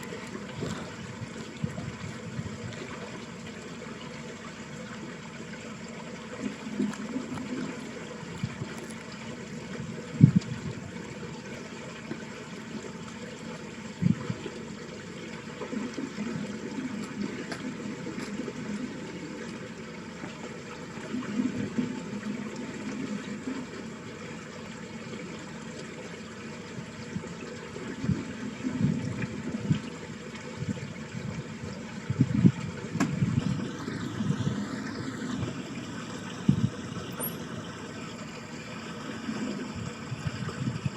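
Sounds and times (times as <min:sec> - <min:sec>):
water rushing down a ditch: 0:00.0 - 0:40.9.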